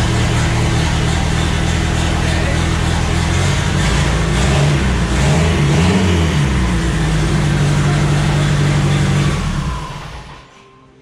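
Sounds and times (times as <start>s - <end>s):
boat engine revving and idling: 0.0s - 10.3s.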